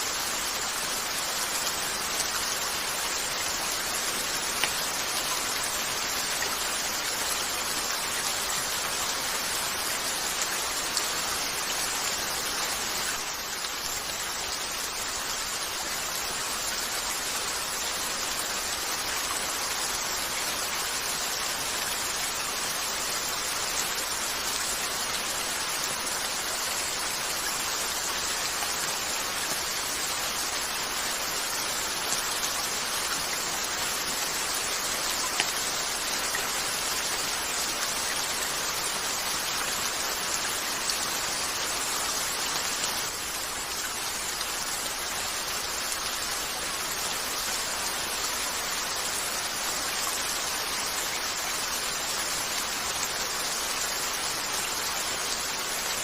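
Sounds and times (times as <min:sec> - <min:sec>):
rain on a window: 0:00.1 - 0:56.0.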